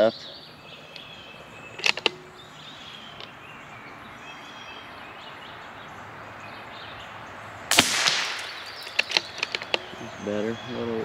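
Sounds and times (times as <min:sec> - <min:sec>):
birds singing: 0:00.0 - 0:11.0
outdoor background hiss: 0:00.0 - 0:11.0.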